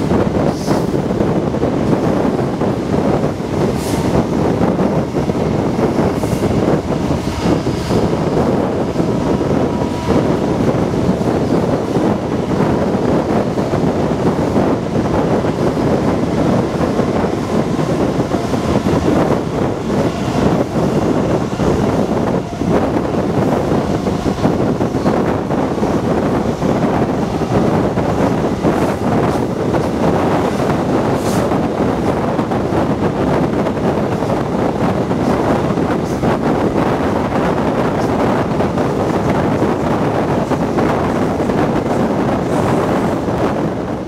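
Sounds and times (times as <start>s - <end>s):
train wheels roaring on rails: 0.0s - 44.0s
wind buffeting microphone: 0.0s - 44.0s.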